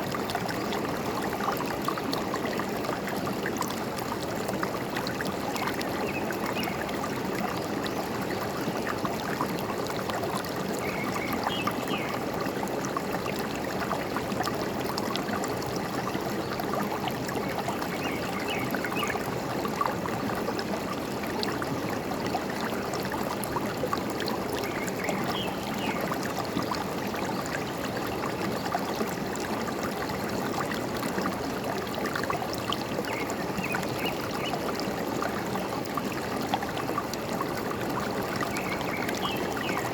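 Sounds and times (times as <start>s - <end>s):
forest stream gurgling: 0.0s - 39.9s.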